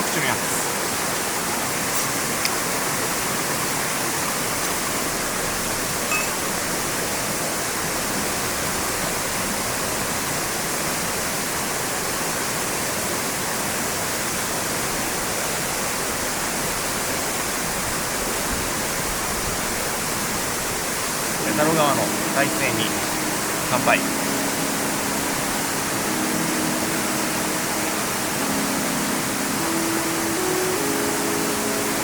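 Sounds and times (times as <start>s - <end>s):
rushing mountain stream: 0.0s - 32.0s.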